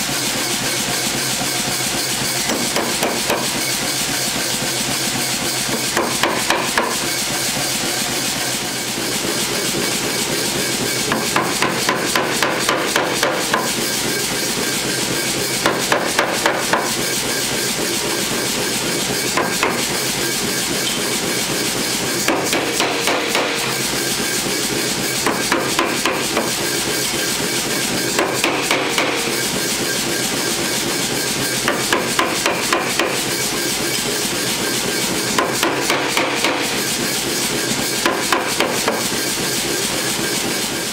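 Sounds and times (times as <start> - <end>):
mechanical running noise: 0.0 - 40.9
power hammer striking steel: 2.3 - 4.5, 5.4 - 7.5, 8.2 - 40.5.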